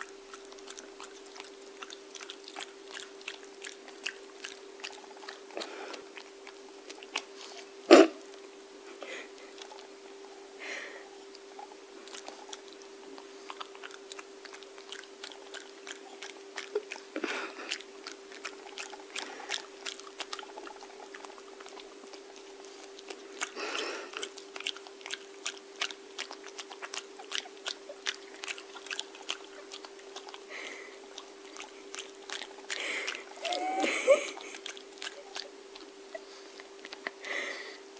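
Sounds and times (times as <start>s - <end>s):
dog chewing and crunching: 0.0s - 8.5s, 9.1s - 37.3s.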